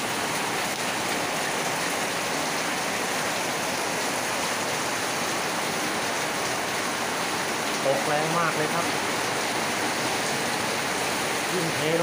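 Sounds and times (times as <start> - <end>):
heavy rain pouring: 0.0 - 12.0
water streaming off roof: 0.0 - 12.0.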